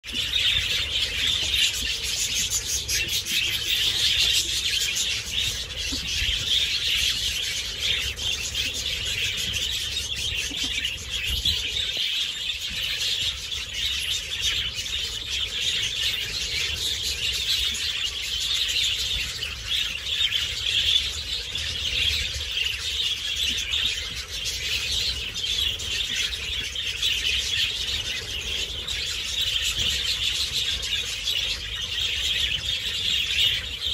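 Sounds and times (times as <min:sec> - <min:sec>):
budgerigars chattering and warbling: 0:00.1 - 0:33.9.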